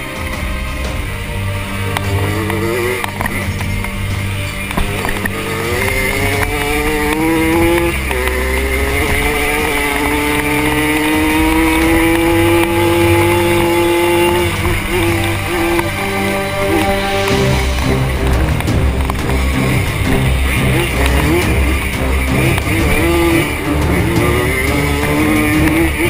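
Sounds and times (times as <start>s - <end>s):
moped engine running hard: 1.9s - 26.0s.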